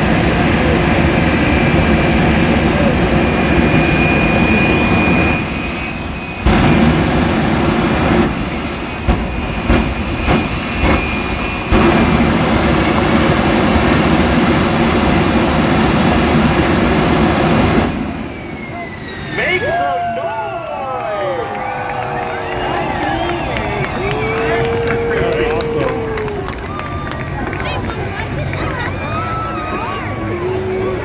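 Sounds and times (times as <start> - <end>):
jet engine roaring: 0.0 - 31.0.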